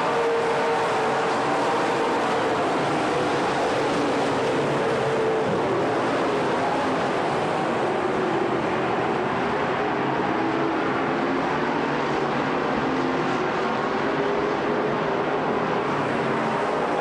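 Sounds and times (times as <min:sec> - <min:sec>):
race car engines at speed: 0:00.0 - 0:17.0.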